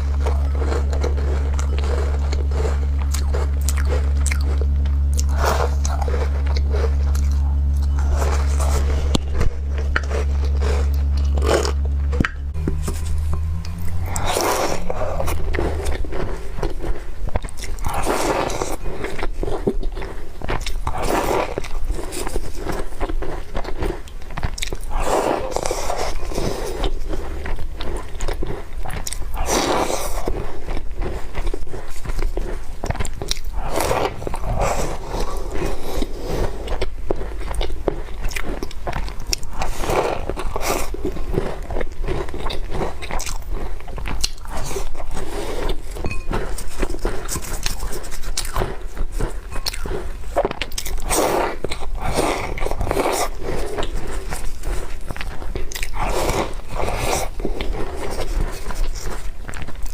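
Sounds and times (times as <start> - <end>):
chewing and crunching cookies: 0.0 - 59.9.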